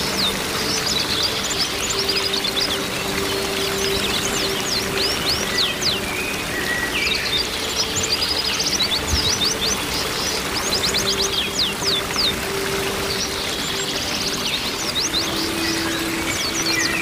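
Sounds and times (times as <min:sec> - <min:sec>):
songbirds chirping: 0:00.0 - 0:17.0
waterfall rushing: 0:00.0 - 0:17.0.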